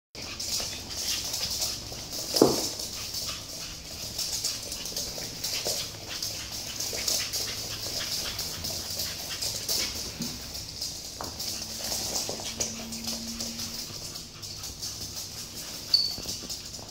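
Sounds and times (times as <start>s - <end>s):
claws scrabbling on wooden floor: 0.2s - 16.9s.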